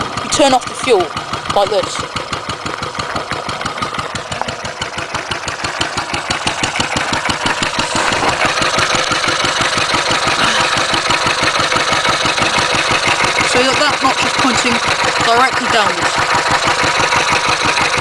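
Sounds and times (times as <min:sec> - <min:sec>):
stationary engine running: 0:00.0 - 0:18.0.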